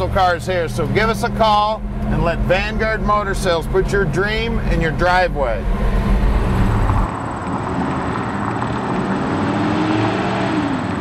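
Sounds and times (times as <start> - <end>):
car engine running: 0.0 - 9.2
vehicle drone outdoors: 0.0 - 11.0
vehicle passing: 0.0 - 11.0.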